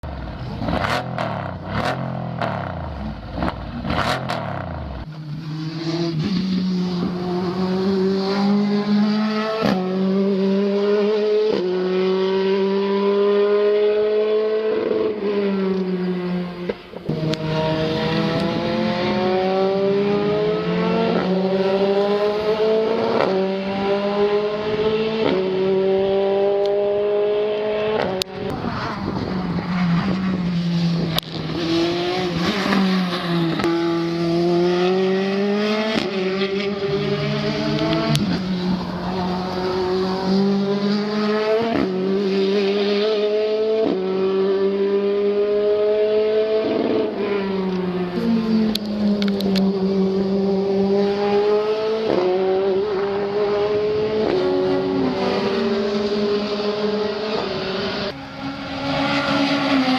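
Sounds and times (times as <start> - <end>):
race car engines accelerating: 0.0 - 59.9.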